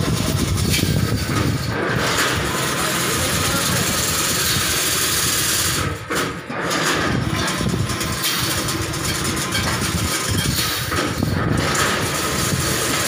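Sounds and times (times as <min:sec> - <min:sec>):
fencing machine running: 0:00.0 - 0:13.0.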